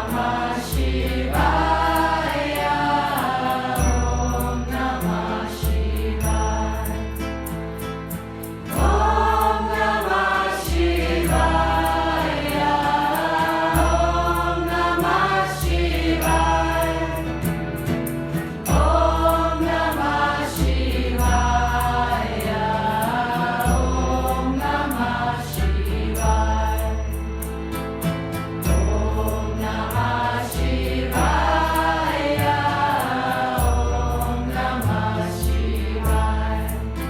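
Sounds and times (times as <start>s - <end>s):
light percussion beat: 0.0s - 37.0s
sustained bass line: 0.0s - 37.0s.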